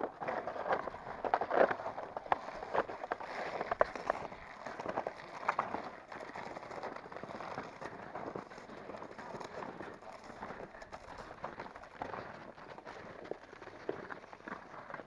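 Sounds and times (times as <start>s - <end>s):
footsteps crunching on snow: 0.2s - 15.0s.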